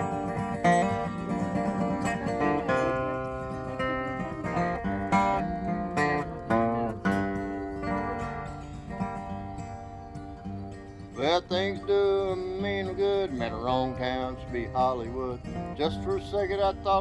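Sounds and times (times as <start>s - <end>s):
acoustic guitar strumming: 0.0s - 17.0s
guitar lead notes bending: 0.0s - 17.0s.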